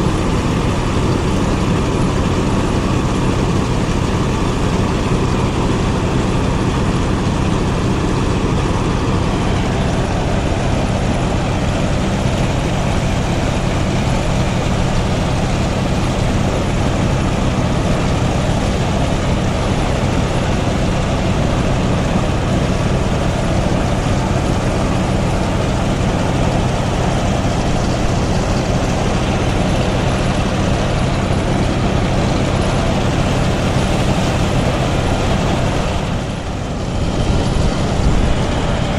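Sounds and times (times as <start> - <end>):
low engine drone: 0.0 - 38.9
rushing threshing noise: 0.0 - 38.9.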